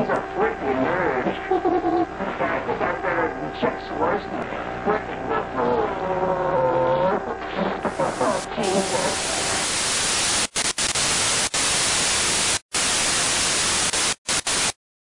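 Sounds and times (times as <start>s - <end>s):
television static hiss: 0.0s - 14.8s.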